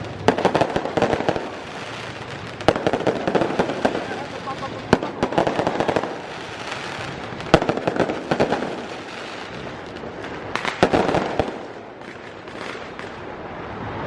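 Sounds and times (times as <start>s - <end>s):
fireworks cracking and crackling: 0.0s - 14.0s.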